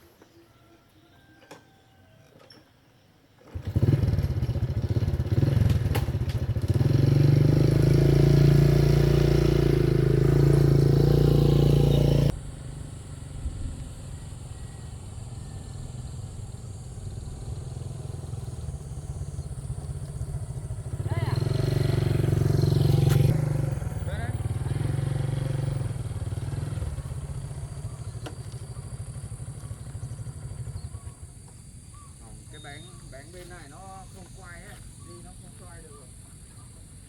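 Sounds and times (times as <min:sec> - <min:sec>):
motorbike engine running: 0:03.5 - 0:35.1.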